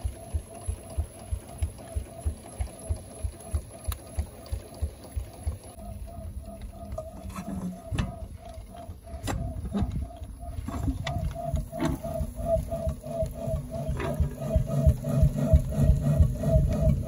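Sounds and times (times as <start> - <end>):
steady pulsing beat: 0.0 - 17.0.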